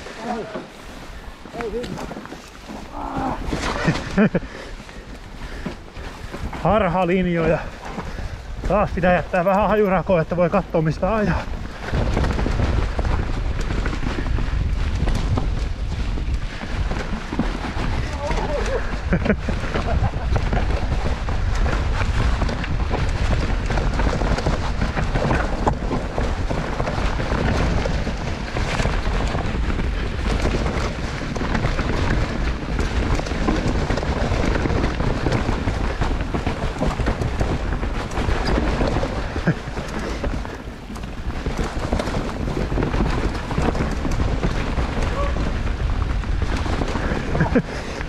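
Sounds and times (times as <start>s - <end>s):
bike rattling over bumps: 0.0s - 48.0s
bike tyres running over dirt: 0.0s - 48.0s
wind rushing on microphone: 0.0s - 48.0s.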